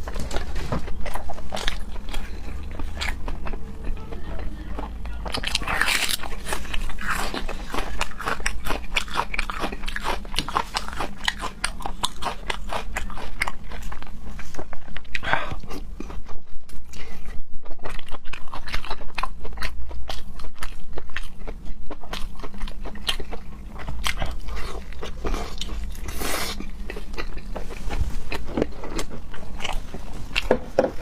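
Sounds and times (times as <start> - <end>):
crunchy chewing and biting: 0.0 - 31.0.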